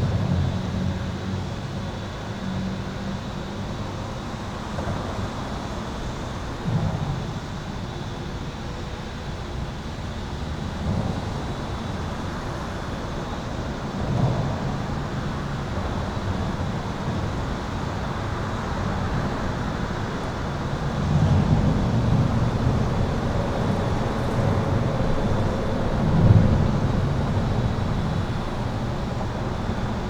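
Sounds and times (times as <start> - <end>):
highway traffic rumble: 0.0 - 30.0.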